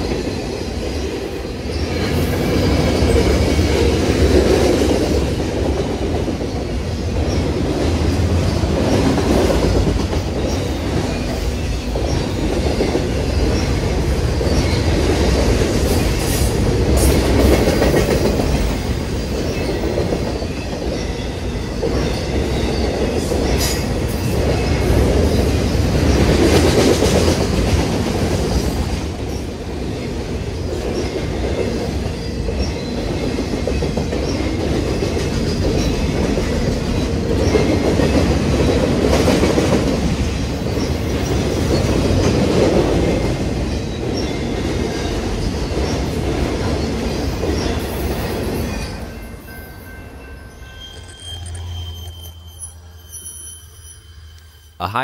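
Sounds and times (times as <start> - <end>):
train wheels rumbling on rail: 0.0 - 52.1.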